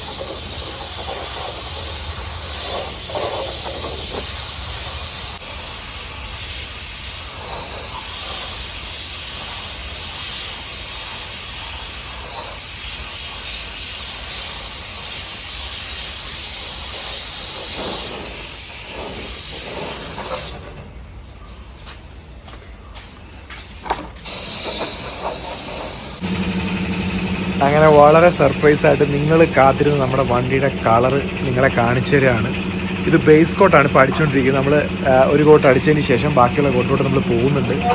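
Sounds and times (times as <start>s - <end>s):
spray paint gun hissing: 0.0s - 20.6s, 24.2s - 37.9s.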